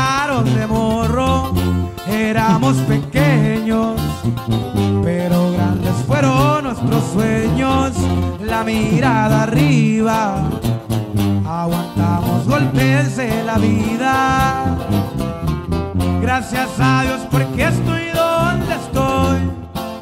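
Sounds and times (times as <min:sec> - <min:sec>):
person singing: 0:00.0 - 0:10.7, 0:11.4 - 0:15.2, 0:16.0 - 0:19.7
guitar: 0:00.0 - 0:20.0
steady bass line: 0:00.0 - 0:20.0.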